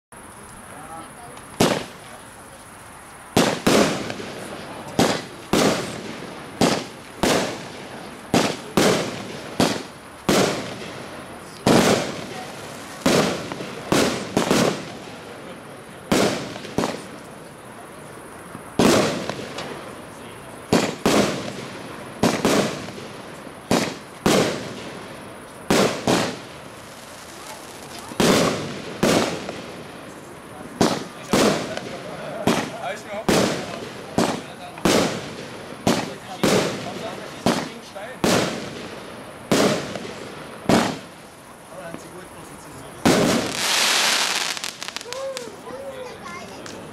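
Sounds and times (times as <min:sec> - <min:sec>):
firework bangs: 0:01.5 - 0:02.3, 0:03.3 - 0:46.9.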